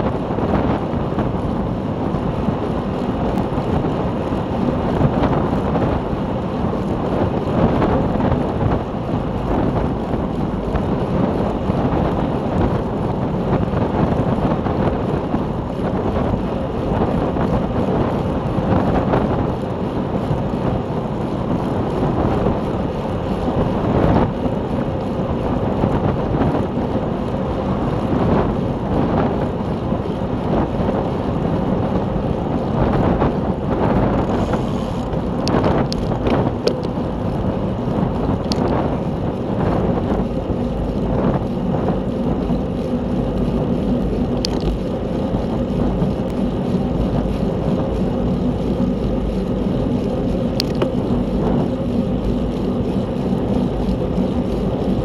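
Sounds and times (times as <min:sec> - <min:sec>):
bicycle rolling and drivetrain noise: 0:00.0 - 0:55.0
wind over microphone: 0:00.0 - 0:55.0.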